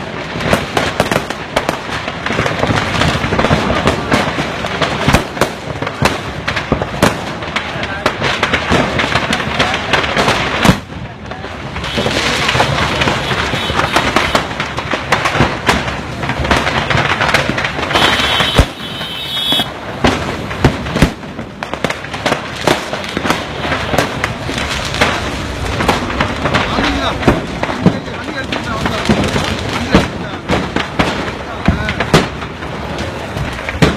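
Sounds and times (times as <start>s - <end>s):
firecrackers exploding: 0.0s - 33.9s.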